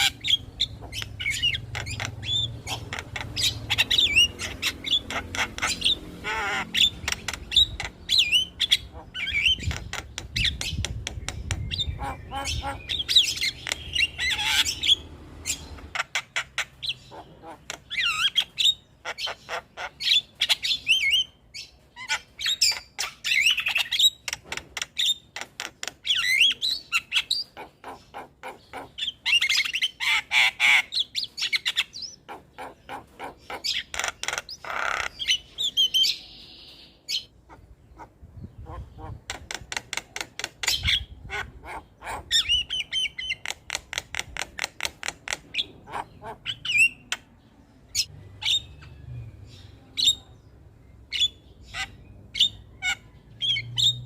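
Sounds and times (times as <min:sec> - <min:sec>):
myna bird singing: 0:00.0 - 0:54.0.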